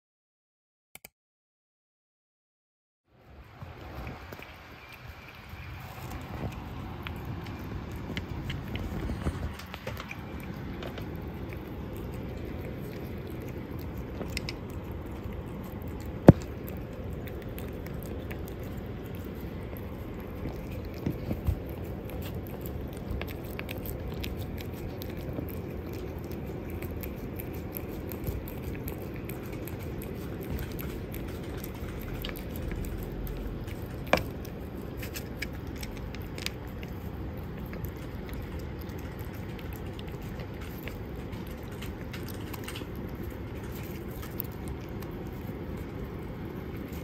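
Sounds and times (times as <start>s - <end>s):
cat chewing and crunching: 3.2s - 47.0s.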